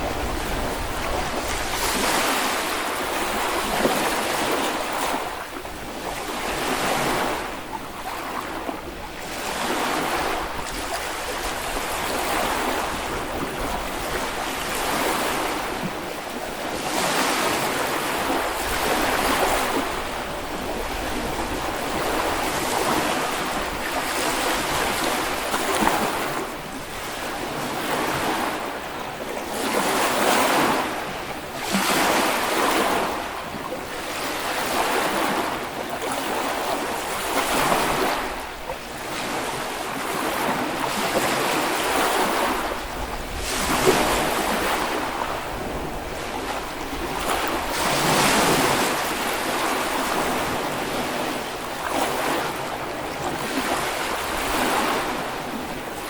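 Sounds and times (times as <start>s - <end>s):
small waves breaking on beach: 0.0s - 56.0s
wind on microphone: 0.0s - 56.0s.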